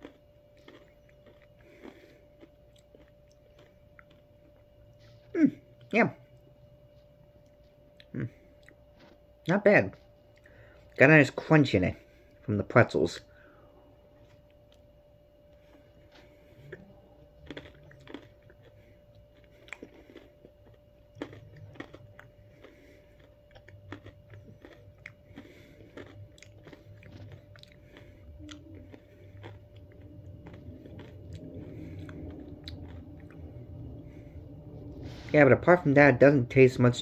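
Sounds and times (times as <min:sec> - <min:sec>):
chewing crunchy food: 0:00.0 - 0:12.5, 0:14.0 - 0:35.3
faint steady hum: 0:00.0 - 0:37.0.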